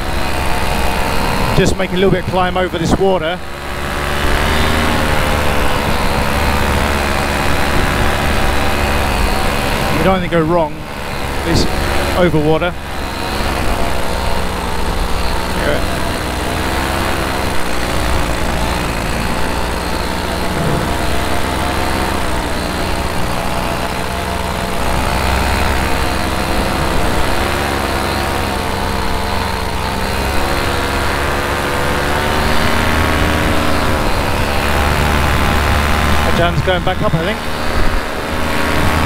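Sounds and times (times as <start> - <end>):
paramotor engine running: 0.0 - 39.0.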